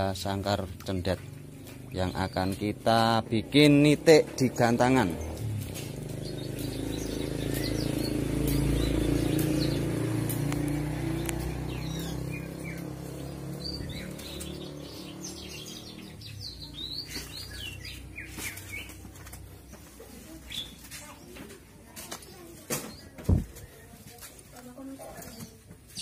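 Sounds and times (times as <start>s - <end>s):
small bird chirping: 0.8s - 23.8s.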